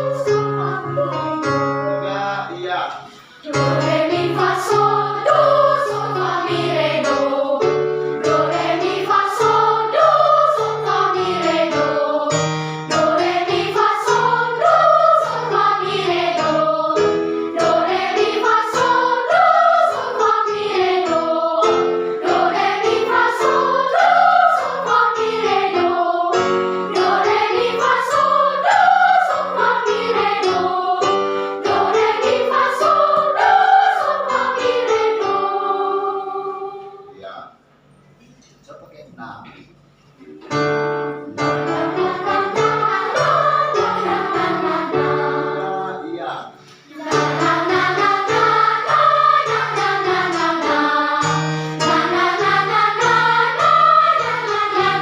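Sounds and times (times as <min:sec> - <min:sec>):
children's choir singing: 0:00.0 - 0:01.5, 0:03.4 - 0:37.2, 0:41.4 - 0:55.0.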